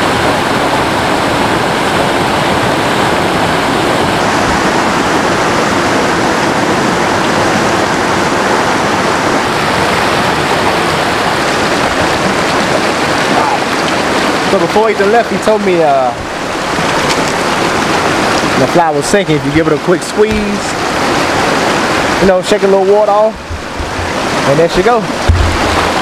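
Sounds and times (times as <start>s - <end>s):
stream water running over rocks: 0.0s - 26.0s.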